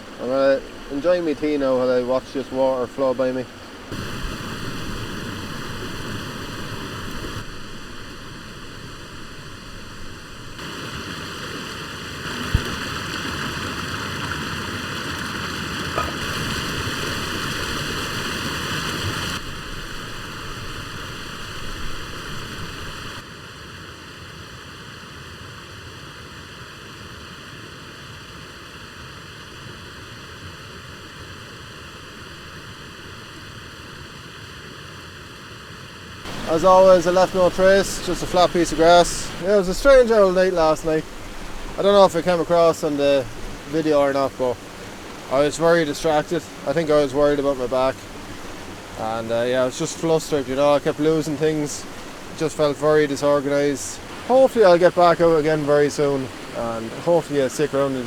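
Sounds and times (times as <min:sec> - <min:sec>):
stream running water: 0:00.0 - 0:23.3, 0:28.6 - 0:58.0.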